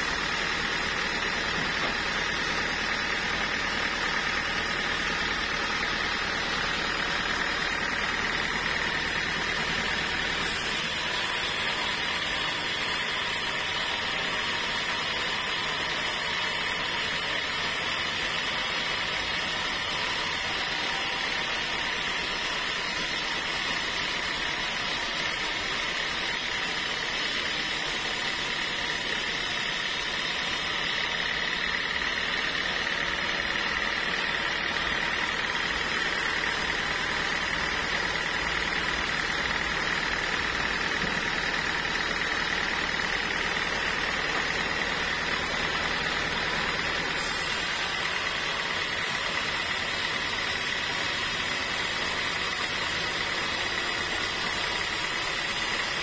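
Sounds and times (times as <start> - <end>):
band saw cutting log: 0.0 - 56.0
high-pitched saw whine: 0.0 - 56.0.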